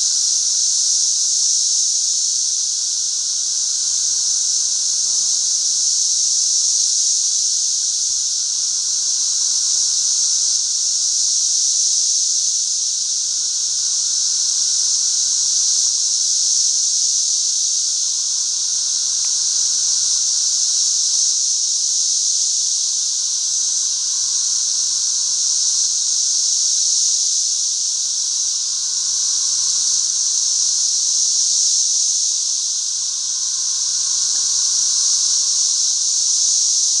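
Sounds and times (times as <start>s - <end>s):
cicadas whining: 0.0s - 37.0s
low cicada drone: 0.0s - 37.0s.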